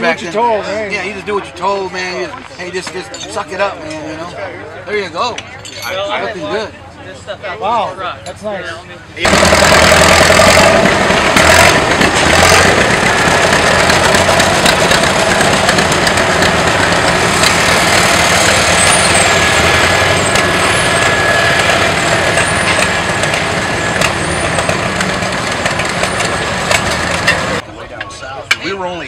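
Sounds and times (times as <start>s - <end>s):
tractor engines running: 0.0s - 29.0s.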